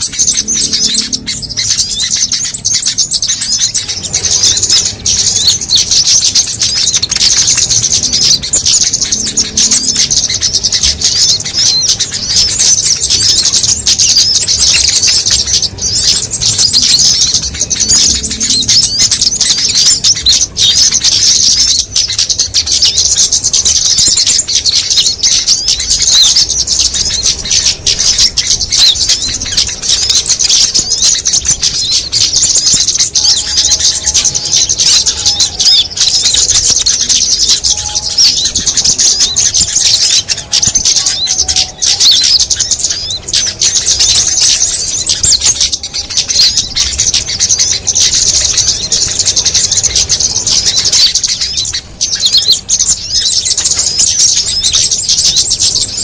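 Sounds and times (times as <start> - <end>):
songbirds twittering and chirping: 0.0 - 56.0.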